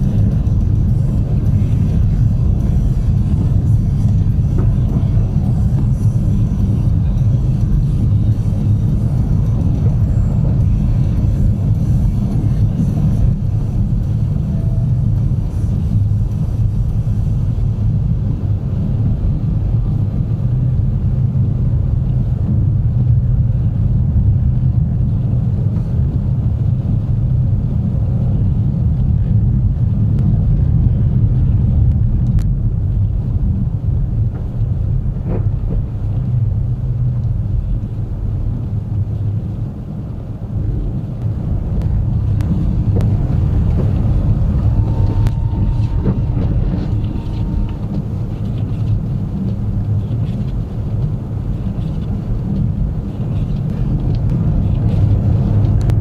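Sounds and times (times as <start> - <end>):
tyres and engine rumble: 0.0 - 56.0.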